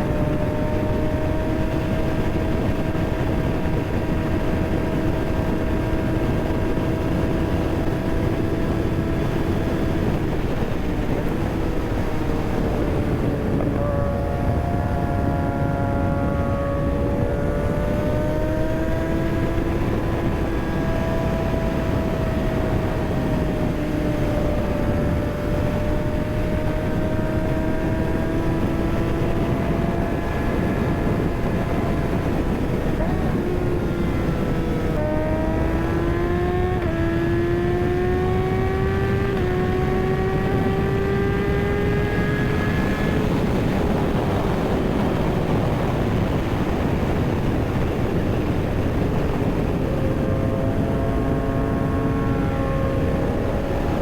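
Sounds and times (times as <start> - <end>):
motorcycle engine: 0.0 - 54.0
wind rush: 0.0 - 54.0.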